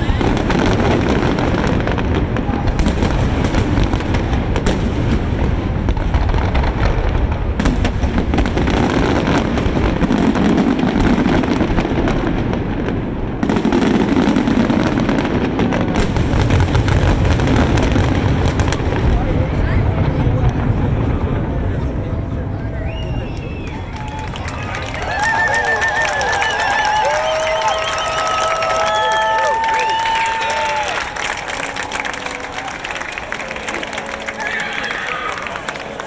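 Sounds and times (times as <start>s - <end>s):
fireworks booming: 0.0s - 30.0s
fireworks crackling and popping: 0.0s - 36.0s.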